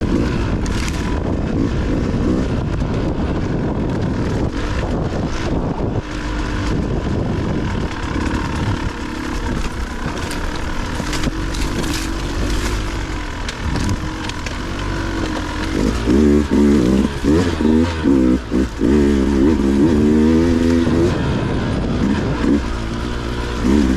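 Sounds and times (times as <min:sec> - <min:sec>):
dirt bike engine revving: 0:00.0 - 0:23.9.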